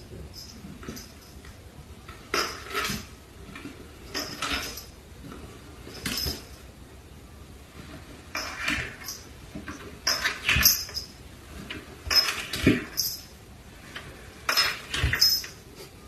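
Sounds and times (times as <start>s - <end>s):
rattle: 0.0s - 6.7s, 7.8s - 15.8s.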